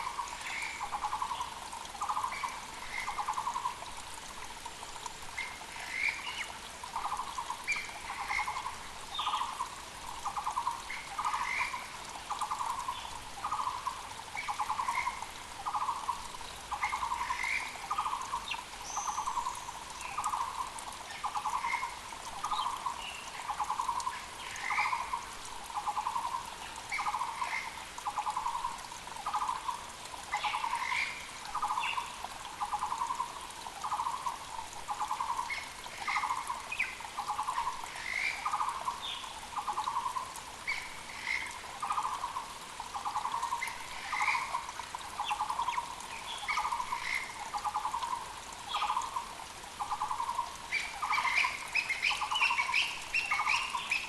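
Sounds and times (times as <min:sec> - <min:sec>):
creek rushing: 0:00.0 - 0:54.0
small birds chirping: 0:05.4 - 0:54.0.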